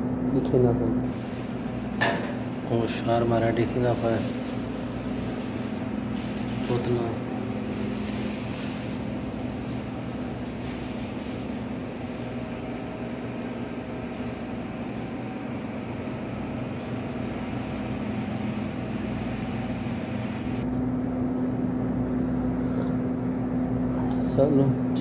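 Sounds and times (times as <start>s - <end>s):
appliance humming: 0.0s - 25.0s.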